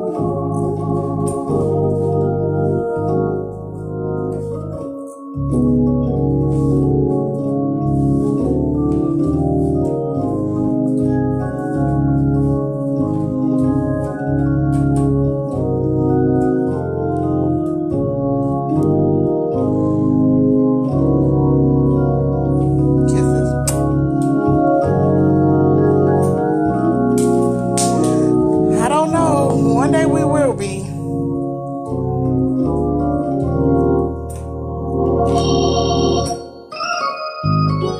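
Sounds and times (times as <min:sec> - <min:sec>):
organ chords over bass line: 0:00.0 - 0:37.9.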